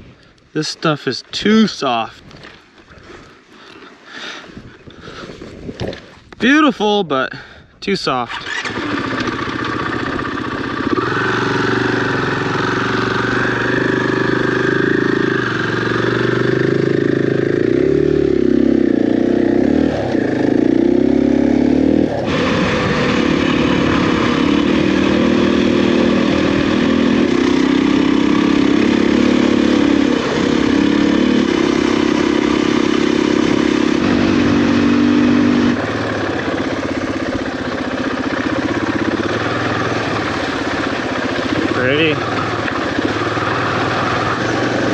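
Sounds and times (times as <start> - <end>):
motorcycle engine under load: 8.2 - 44.9.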